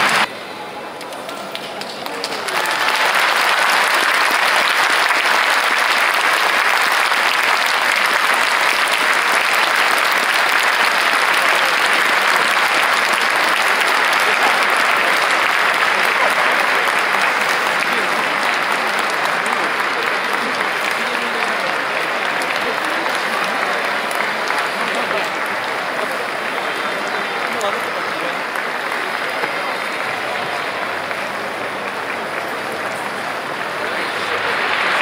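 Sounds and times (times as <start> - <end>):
stadium crowd applauding: 0.0 - 35.0.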